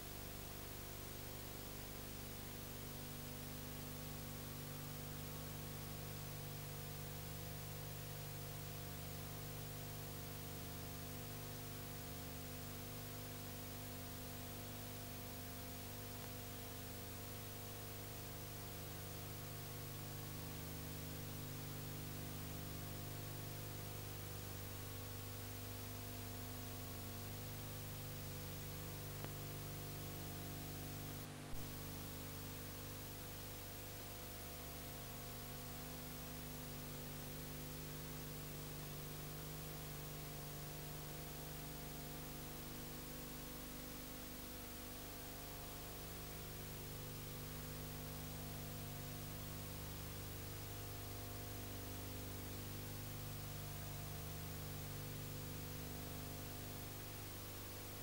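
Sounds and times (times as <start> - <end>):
hiss and electrical hum: 0.0 - 58.0.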